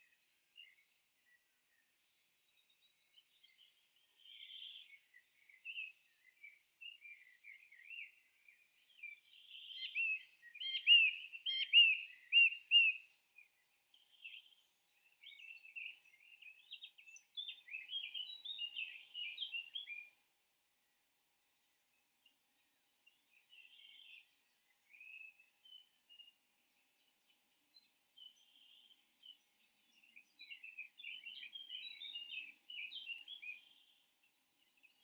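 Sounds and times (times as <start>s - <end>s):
bird singing: 0.0s - 20.2s, 20.8s - 35.0s.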